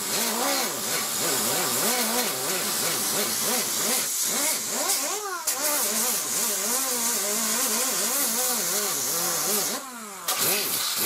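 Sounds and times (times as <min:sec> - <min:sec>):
angle grinder motor: 0:00.0 - 0:11.0.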